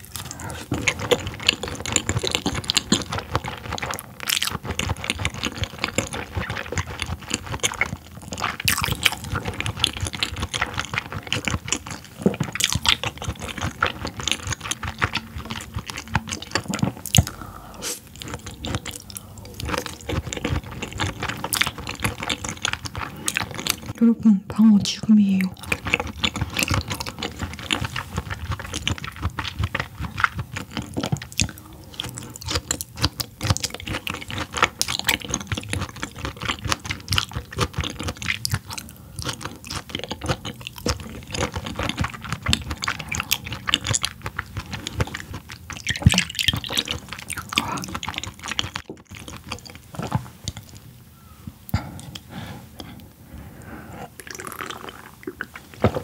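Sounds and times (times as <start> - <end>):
close-up chewing mouth smacks: 0.0 - 24.0, 24.8 - 53.1, 54.0 - 56.0.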